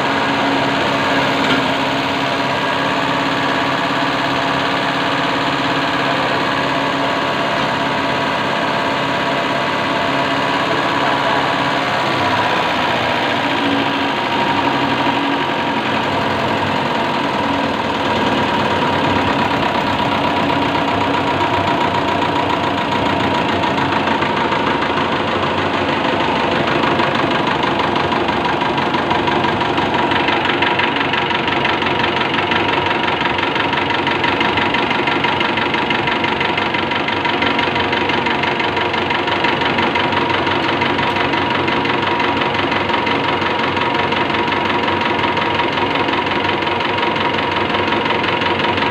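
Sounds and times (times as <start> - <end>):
constant pump whine: 0.0 - 48.9
fuel pump mechanical clatter: 0.0 - 48.9.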